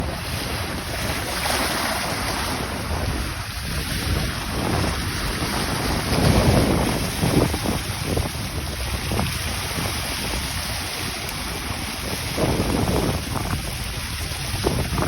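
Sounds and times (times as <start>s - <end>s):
sea waves washing in: 0.0s - 15.0s
wind buffeting microphone: 0.0s - 15.0s.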